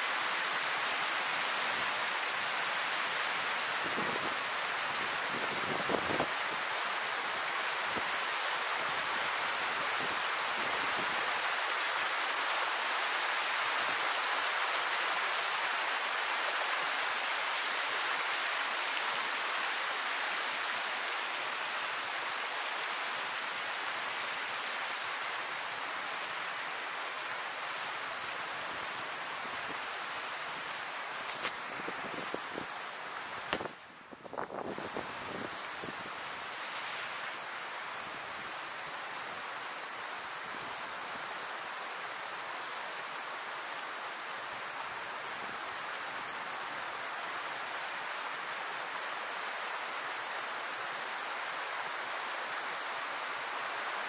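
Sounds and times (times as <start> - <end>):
river water rushing over edge: 0.0 - 54.0.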